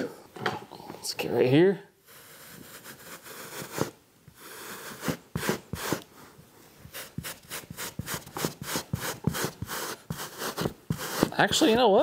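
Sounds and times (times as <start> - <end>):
brush strokes on fabric: 2.2 - 12.0.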